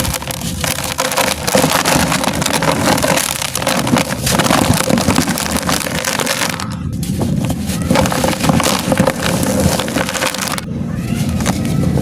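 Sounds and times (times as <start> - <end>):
sand and cement shapes crunching: 0.0 - 12.0.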